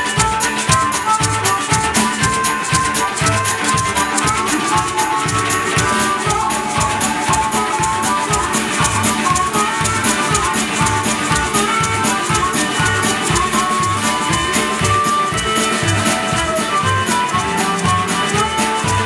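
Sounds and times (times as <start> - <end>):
fast high-pitched rattling percussion: 0.0 - 19.0
skiffle band playing: 0.0 - 19.0.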